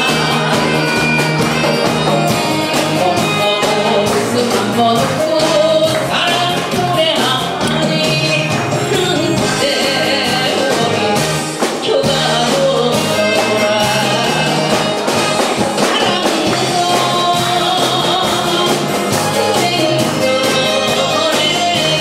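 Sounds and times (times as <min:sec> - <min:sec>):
amplified band accompaniment: 0:00.0 - 0:22.0
drums: 0:00.0 - 0:22.0
woman singing into a microphone: 0:02.7 - 0:15.0, 0:15.7 - 0:22.0.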